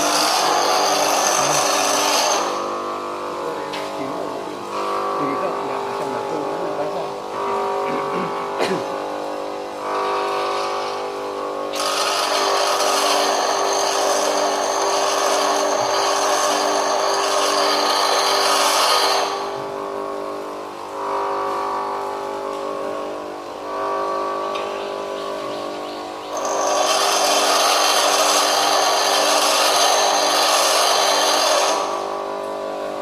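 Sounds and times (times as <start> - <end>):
tool bit grinding on wheel: 0.0 - 21.6, 23.8 - 32.8
bench grinder motor running: 0.0 - 33.0.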